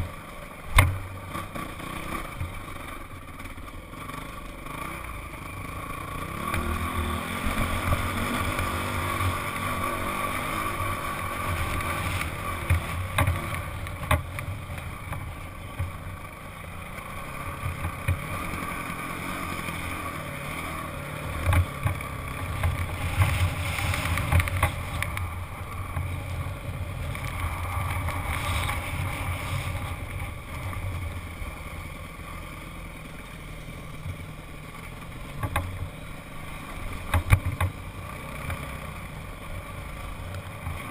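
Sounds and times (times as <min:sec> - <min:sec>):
dirt bike engine revving: 0:00.0 - 0:37.2.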